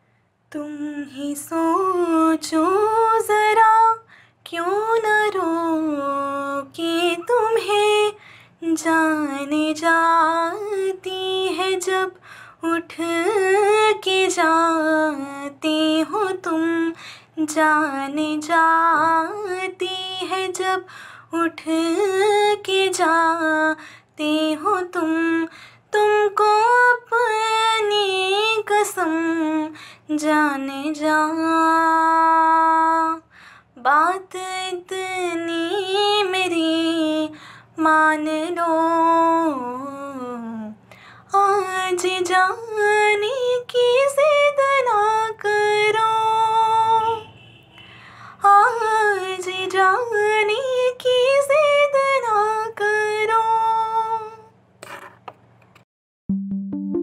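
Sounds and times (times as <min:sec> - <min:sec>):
young woman singing: 0:00.5 - 0:47.3, 0:48.4 - 0:54.5.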